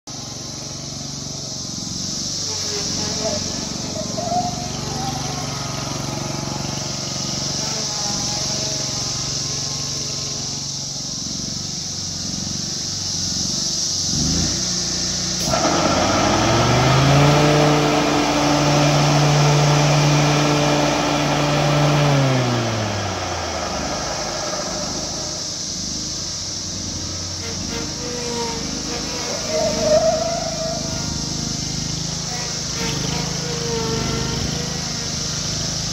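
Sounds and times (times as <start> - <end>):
mower engine running: 0.0 - 35.9
rushing noise: 0.1 - 35.9.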